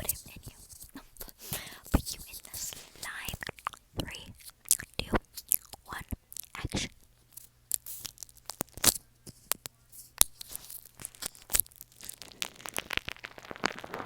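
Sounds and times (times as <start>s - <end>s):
slime crackling and popping: 0.0s - 14.0s.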